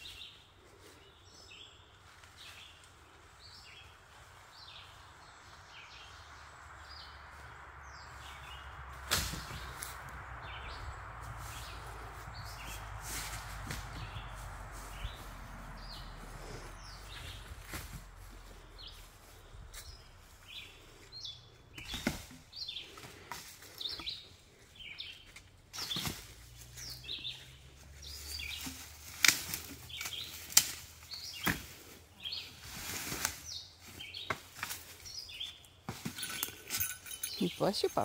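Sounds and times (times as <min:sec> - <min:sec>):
birds chirping: 0:00.0 - 0:32.7, 0:33.3 - 0:38.0.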